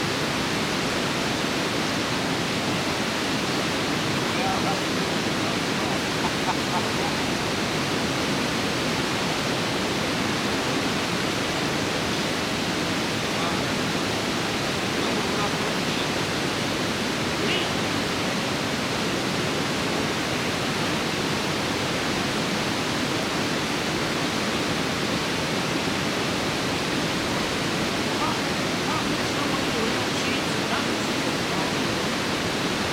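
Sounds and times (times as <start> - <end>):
river water rushing over weir: 0.0 - 32.9.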